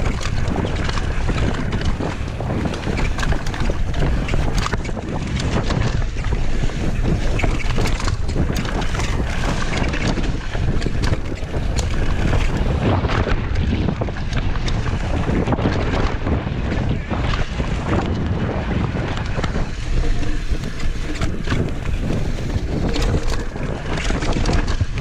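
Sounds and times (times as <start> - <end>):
bike knocks and rattles: 0.0 - 25.0
wind buffeting microphone: 0.0 - 25.0.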